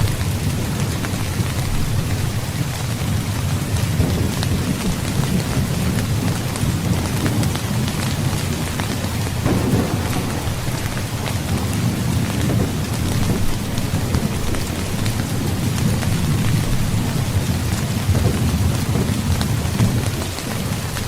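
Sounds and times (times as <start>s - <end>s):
heavy rain falling: 0.0s - 21.0s
low rumble of thunder: 0.0s - 21.0s.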